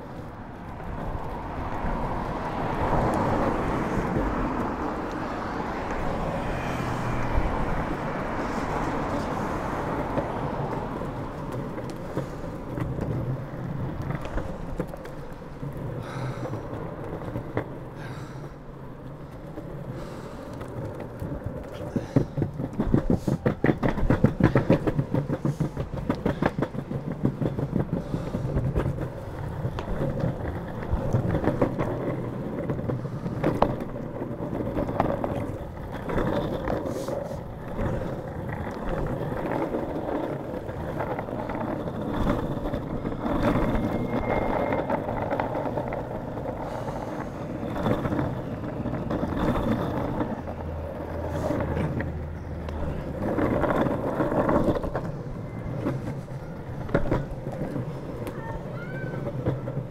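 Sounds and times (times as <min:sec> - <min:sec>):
longboard wheels clacking over joints: 0:00.0 - 0:59.9
longboard wheels rumbling on asphalt: 0:00.0 - 0:59.9.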